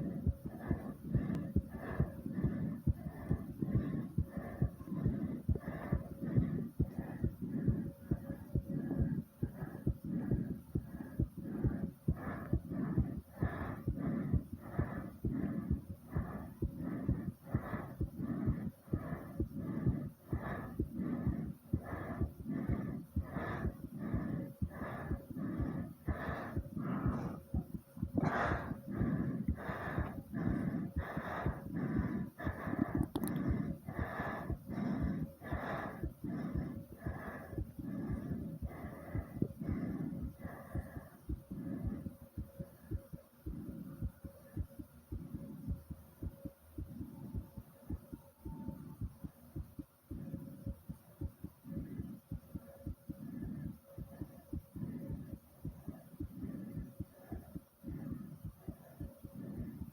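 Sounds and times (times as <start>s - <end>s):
person panting heavily: 0.0s - 50.9s
fast heartbeat thumps: 0.0s - 59.9s
person breathing: 0.0s - 59.9s.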